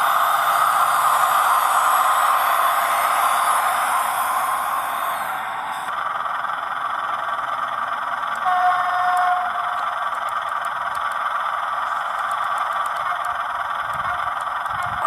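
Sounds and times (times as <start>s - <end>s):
simulated diesel engine through loudspeaker: 0.0s - 15.0s.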